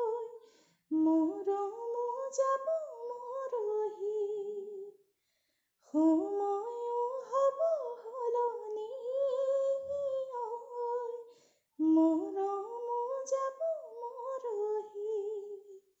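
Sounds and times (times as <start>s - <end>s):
woman singing unaccompanied: 0.0s - 4.9s, 5.9s - 15.8s.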